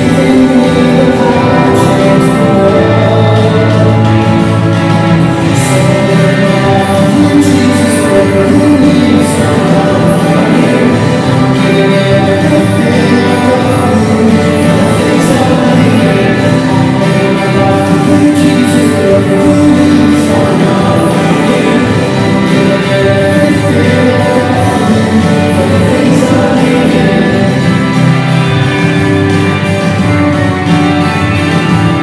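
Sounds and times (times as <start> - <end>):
singing: 0.0 - 28.1
guitar-led band music: 0.0 - 32.0
steady beat: 0.0 - 32.0.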